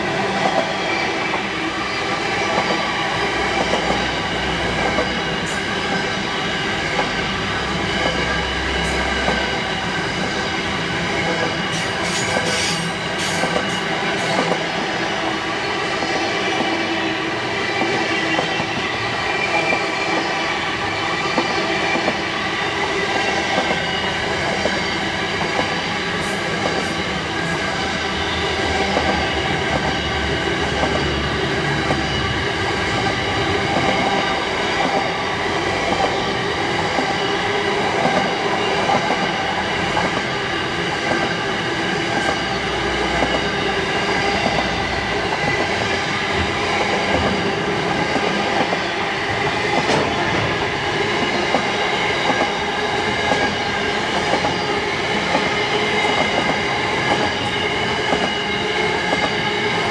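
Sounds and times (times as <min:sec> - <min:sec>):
train rolling past: 0:00.0 - 0:59.9.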